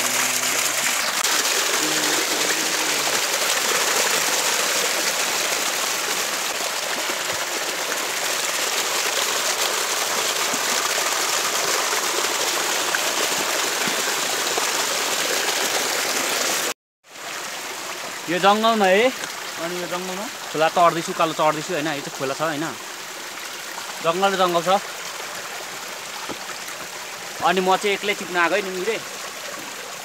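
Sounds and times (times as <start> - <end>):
waterfall splashing over rocks: 0.0 - 30.0.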